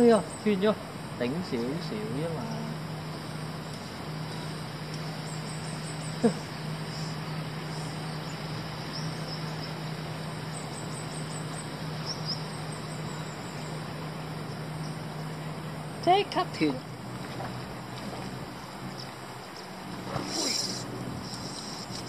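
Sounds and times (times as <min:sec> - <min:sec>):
constant low hum: 0:00.0 - 0:22.0
insects chirping: 0:00.0 - 0:22.0
river water rushing: 0:00.0 - 0:22.0.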